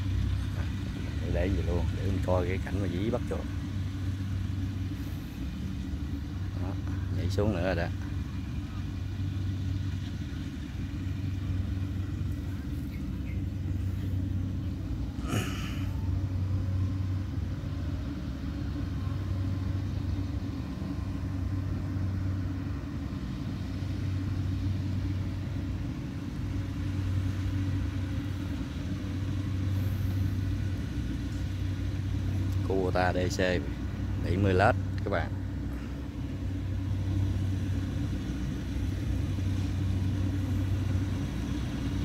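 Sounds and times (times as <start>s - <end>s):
combine harvester engine drone: 0.0s - 42.0s.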